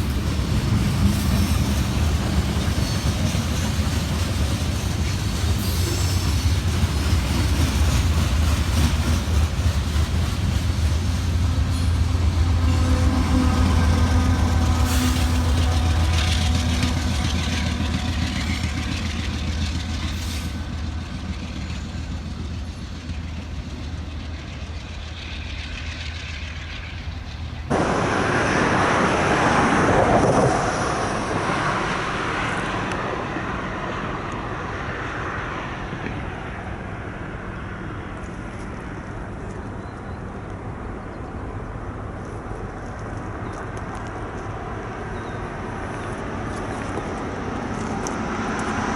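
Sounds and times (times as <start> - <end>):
diesel locomotive engine drone: 0.0 - 48.9
train rolling past: 0.0 - 48.9.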